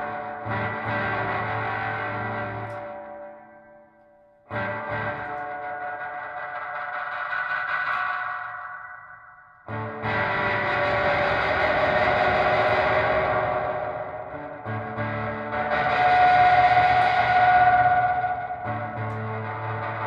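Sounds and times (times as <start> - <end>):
electric guitar chords with reverb: 0.0 - 20.0
high guitar tone: 0.0 - 20.0.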